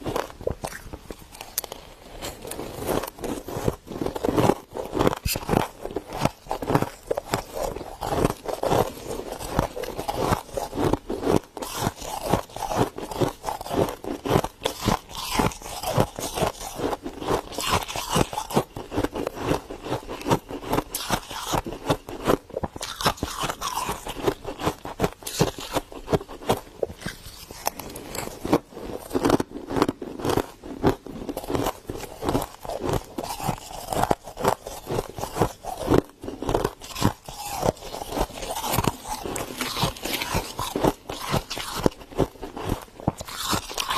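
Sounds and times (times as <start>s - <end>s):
frost crunching: 0.0s - 43.9s.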